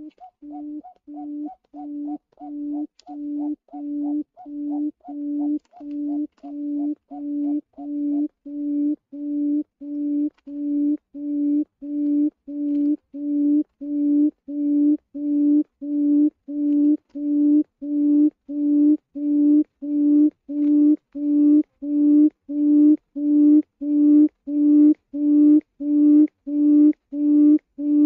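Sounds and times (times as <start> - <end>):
quail lure call hooting notes: 0.0 - 28.0.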